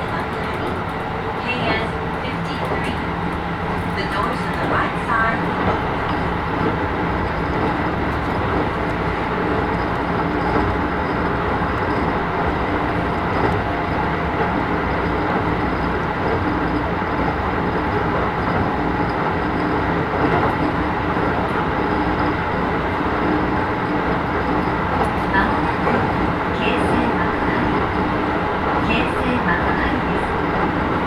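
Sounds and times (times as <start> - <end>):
train wheels rolling on rail: 0.0 - 31.0.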